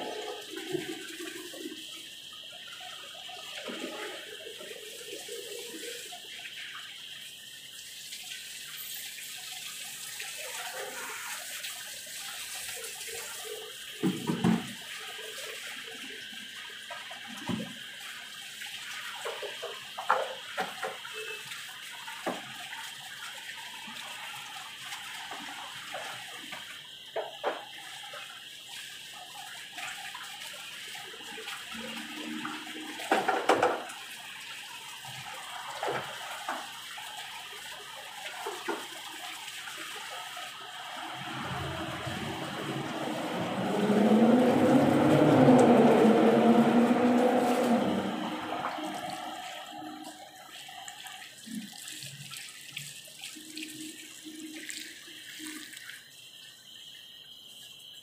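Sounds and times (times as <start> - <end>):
water rushing: 0.0 - 6.8, 8.2 - 18.2, 18.8 - 55.8.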